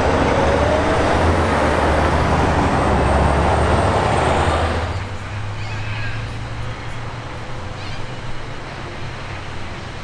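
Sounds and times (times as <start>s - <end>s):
bus diesel engine drone: 0.0s - 10.0s
tyre and road noise: 0.0s - 10.0s.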